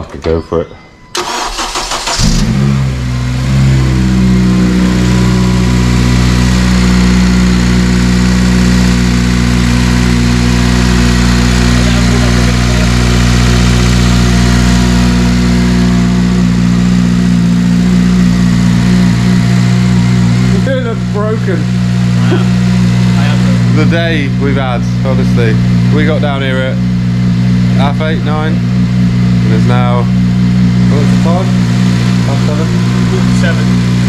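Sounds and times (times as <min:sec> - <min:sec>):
car engine starting and idling: 0:00.0 - 0:34.0.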